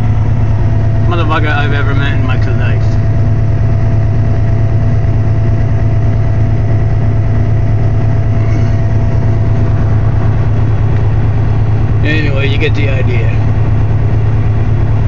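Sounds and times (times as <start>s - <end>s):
faint steady whine: 0.0s - 15.0s
vehicle engine idling: 0.0s - 15.0s.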